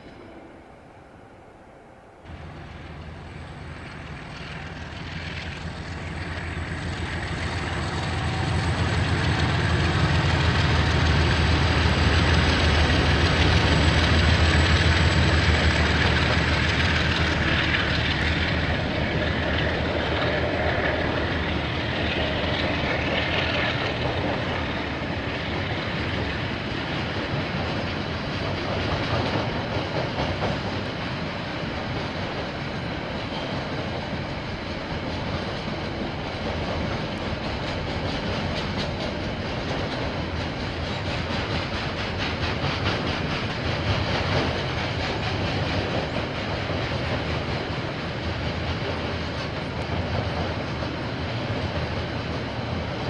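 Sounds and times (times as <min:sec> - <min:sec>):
diesel locomotive engine hum: 0:00.0 - 0:53.0
train wheels on rails: 0:00.0 - 0:53.0.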